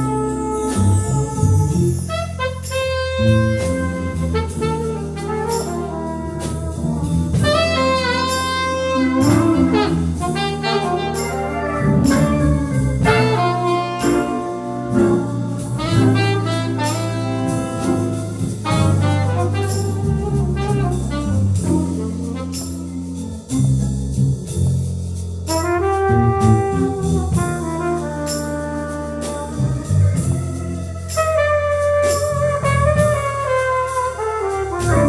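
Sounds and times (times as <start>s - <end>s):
saxophone and brass melody: 0.0s - 23.6s, 25.5s - 35.0s
bass line: 0.0s - 35.0s.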